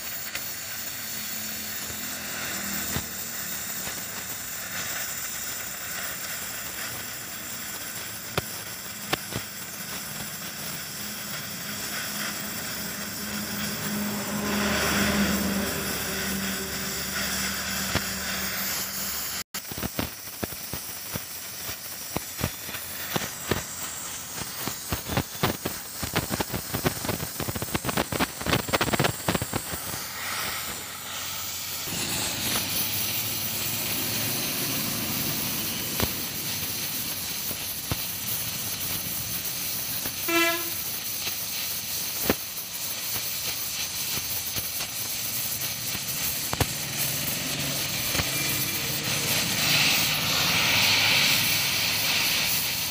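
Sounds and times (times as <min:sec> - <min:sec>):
welding torch flame hissing: 0:00.0 - 0:52.9
crackling pops: 0:01.8 - 0:52.9.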